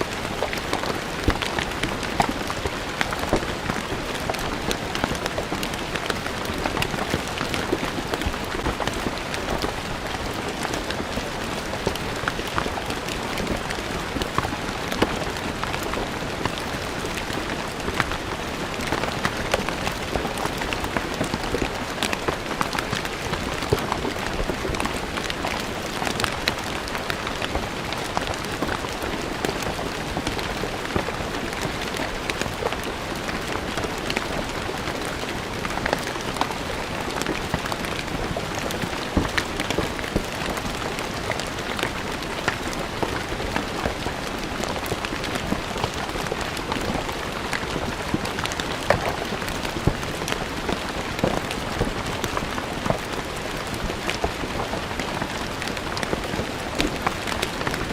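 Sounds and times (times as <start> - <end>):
rain on stone ground: 0.0 - 57.9.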